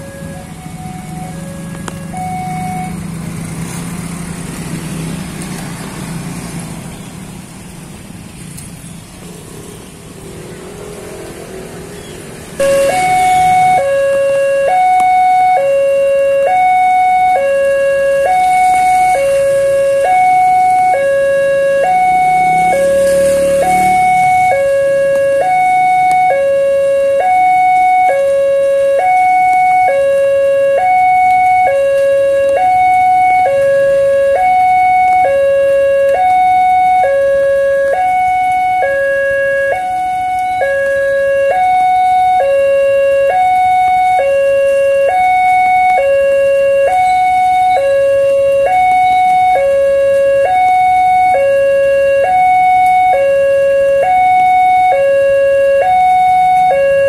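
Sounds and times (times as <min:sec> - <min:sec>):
two-tone crossing alarm: 0:00.0 - 0:05.0, 0:10.8 - 0:57.0.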